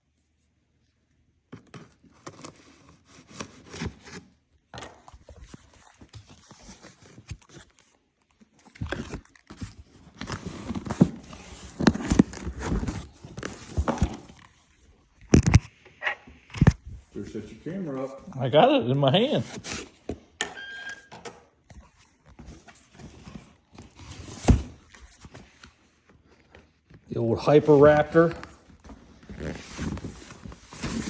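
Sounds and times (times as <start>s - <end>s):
handling rustling and scraping: 1.6s - 15.9s, 16.5s - 20.4s, 21.0s - 31.0s.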